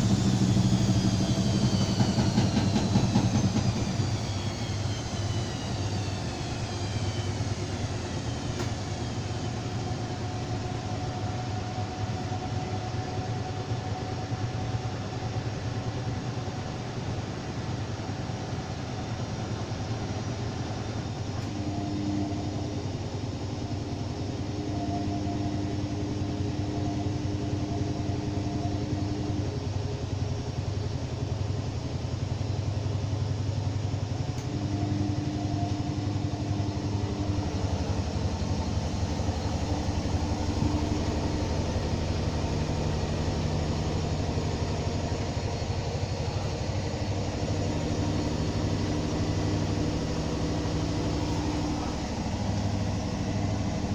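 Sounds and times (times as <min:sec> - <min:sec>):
washing machine running: 0:00.0 - 0:53.9.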